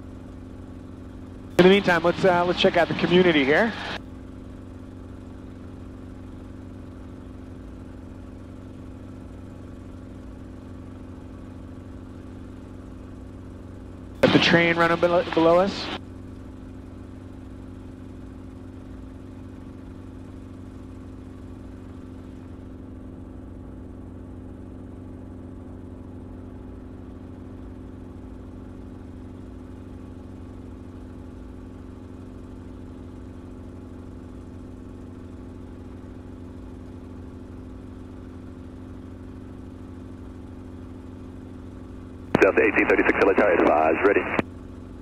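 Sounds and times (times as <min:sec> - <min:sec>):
helicopter engine and rotor drone: 0:00.0 - 0:45.0.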